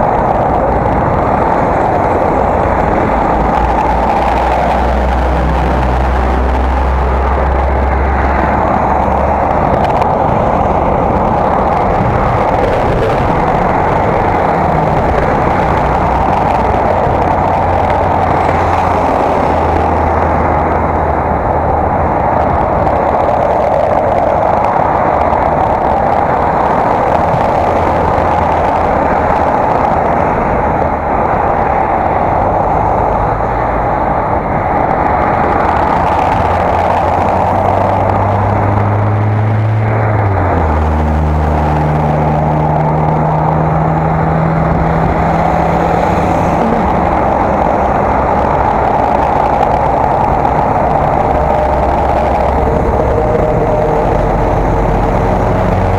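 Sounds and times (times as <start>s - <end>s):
low rumble: 0.0s - 55.9s
wind and road noise: 0.0s - 55.9s.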